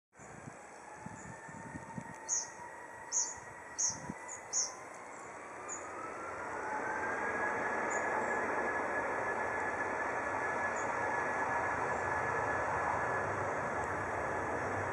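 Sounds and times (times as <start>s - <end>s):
rising engine whine: 0.2s - 14.9s
jet engines rushing: 0.3s - 14.9s.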